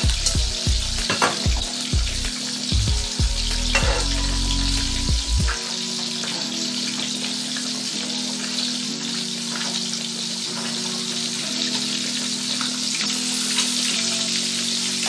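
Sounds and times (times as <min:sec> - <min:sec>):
background music with low chords: 0:00.0 - 0:15.0
fish frying in hot oil: 0:00.0 - 0:15.0.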